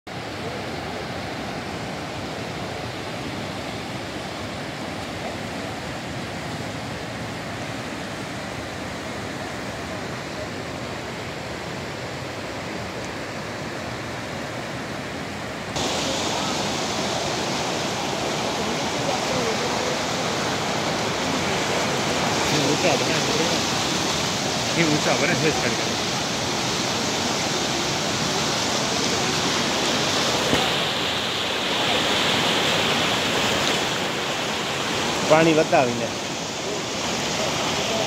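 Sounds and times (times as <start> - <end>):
floodwater rushing: 0.1 - 38.0.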